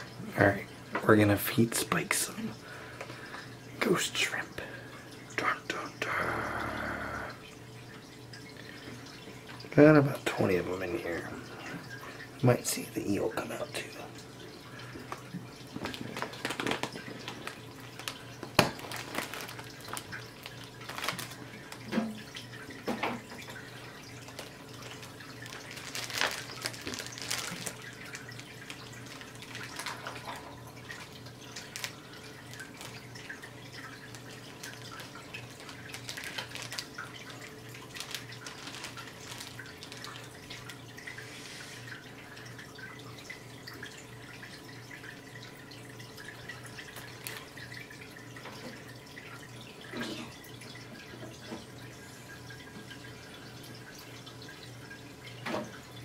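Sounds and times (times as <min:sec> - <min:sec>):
low pump hum: 0:00.0 - 0:56.0
water trickling and dripping: 0:00.0 - 0:56.0.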